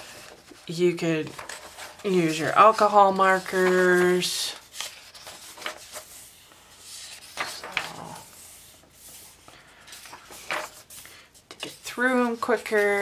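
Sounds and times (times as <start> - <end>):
book pages turning: 0.0 - 13.0.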